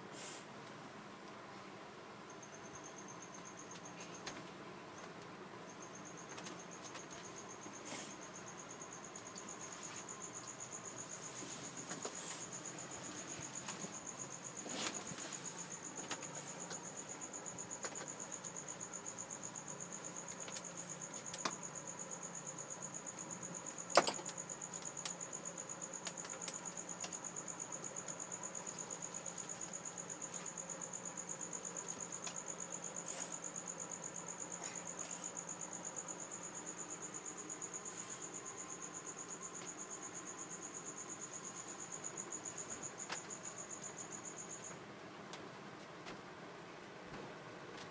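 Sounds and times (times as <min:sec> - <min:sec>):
cricket chirping: 0:00.0 - 0:47.9.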